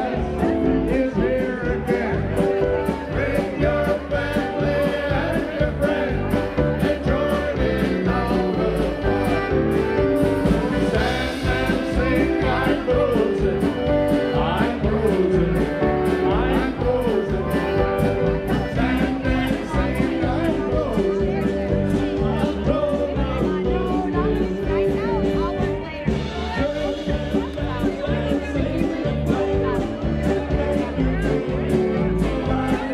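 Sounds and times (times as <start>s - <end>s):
polka band music with singing: 0.0s - 32.9s.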